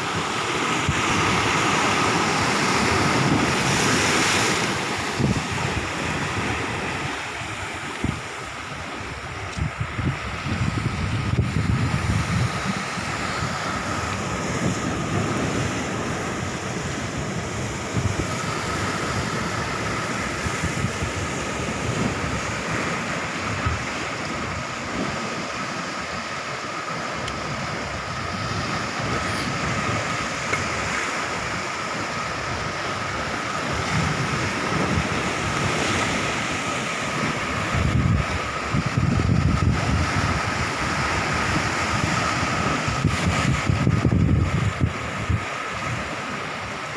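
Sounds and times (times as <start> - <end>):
surf washing against shore: 0.0 - 46.9
wind on microphone: 0.0 - 46.9.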